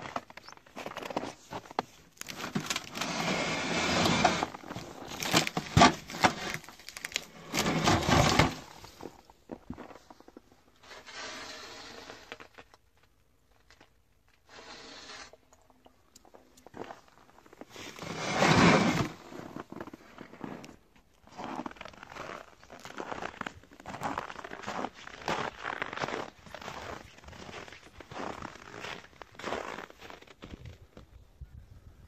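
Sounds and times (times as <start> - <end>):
crunching and scraping: 0.0 - 31.2.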